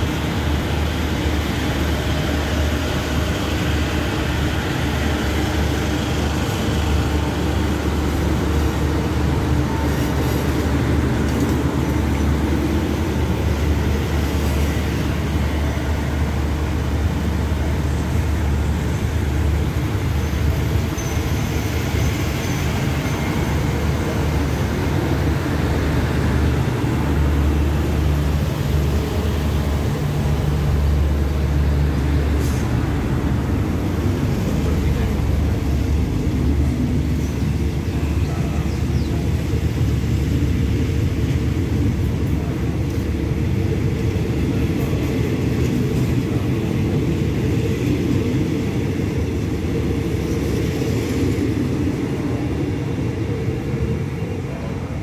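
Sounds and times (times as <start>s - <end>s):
train carriages rumbling: 0.0s - 55.0s.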